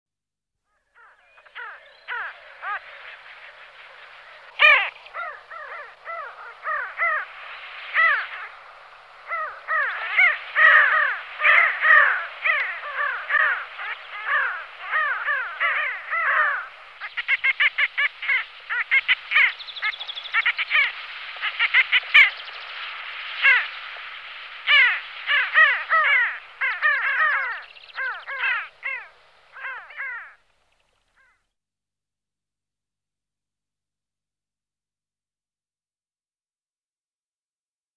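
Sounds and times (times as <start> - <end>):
sandgrouse calling: 1.0 - 31.4.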